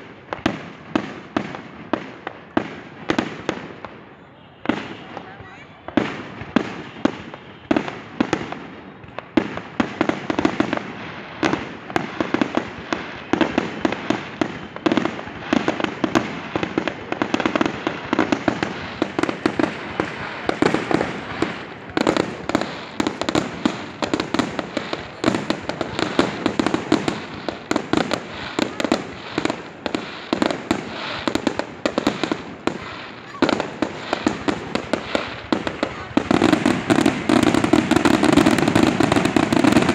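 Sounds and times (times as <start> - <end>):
fireworks bangs and crackles: 0.0 - 39.9
loud firework bangs: 0.0 - 39.9.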